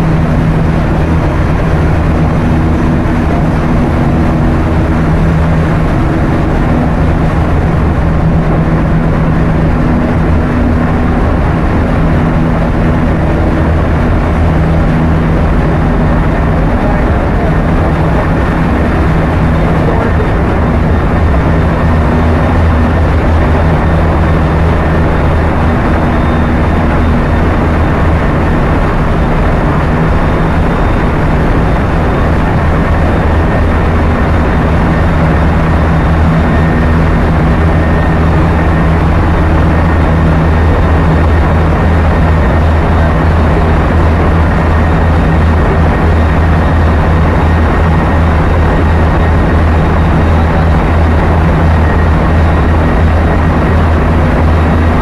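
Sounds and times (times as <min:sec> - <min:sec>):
engine-room machinery din: 0:00.0 - 0:55.0.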